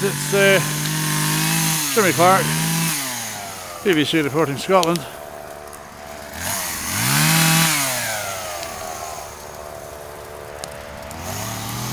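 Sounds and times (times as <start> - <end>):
chainsaw engine revving: 0.0 - 11.9.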